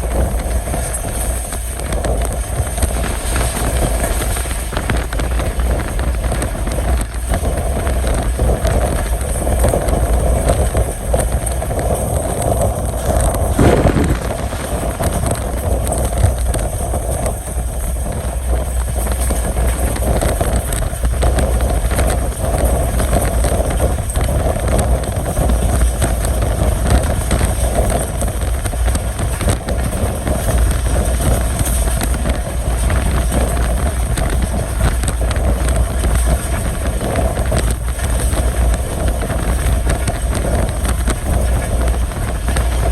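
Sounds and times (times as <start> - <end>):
rushing air: 0.0 - 42.9
train wheels rumbling on rails: 0.0 - 42.9.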